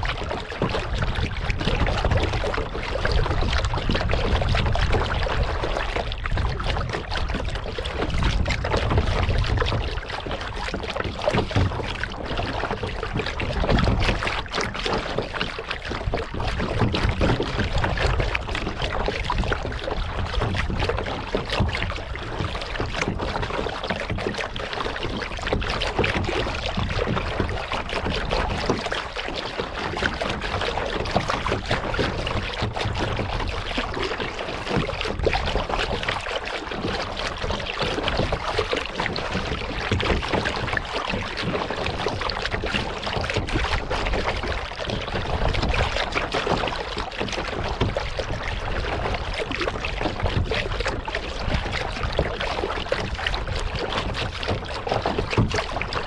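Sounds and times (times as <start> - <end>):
paddle splashing water: 0.0 - 56.0.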